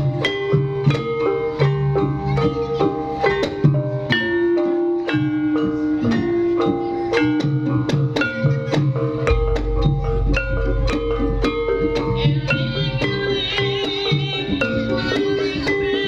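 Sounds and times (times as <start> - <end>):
gamelan metallophone melody: 0.0 - 16.0.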